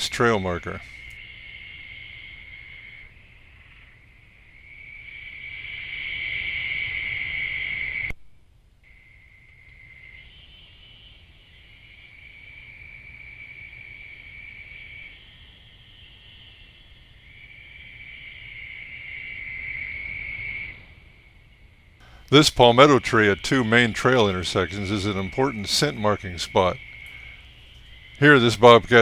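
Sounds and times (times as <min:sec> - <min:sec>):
night insects chirring: 0:00.0 - 0:29.0.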